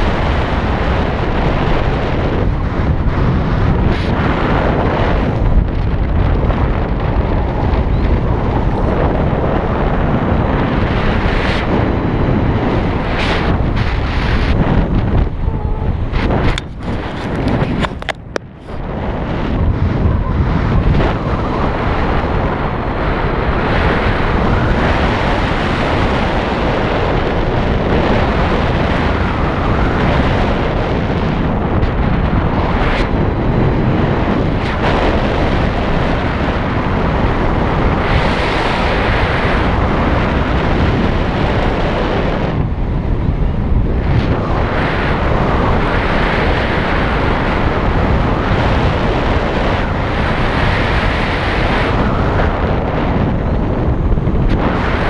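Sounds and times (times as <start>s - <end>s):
road noise: 0.0s - 55.0s
wind roar on microphone: 0.0s - 55.0s.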